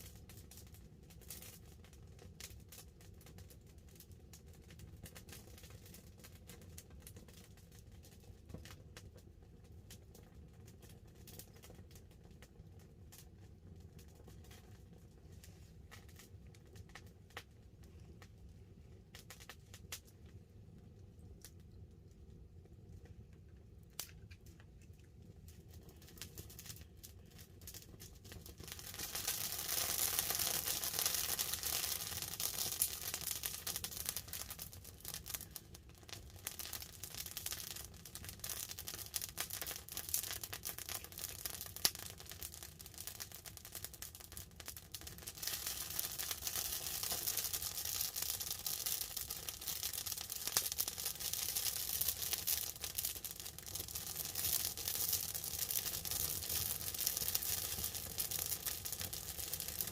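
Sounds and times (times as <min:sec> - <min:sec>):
campfire crackling and popping: 0:00.0 - 0:59.9
light rain on tarp: 0:00.0 - 0:59.9.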